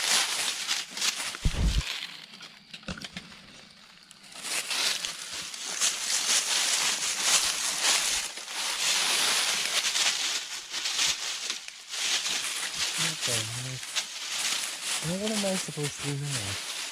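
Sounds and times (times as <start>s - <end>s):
footsteps crunching dry leaves: 0.0s - 2.4s, 4.2s - 16.9s.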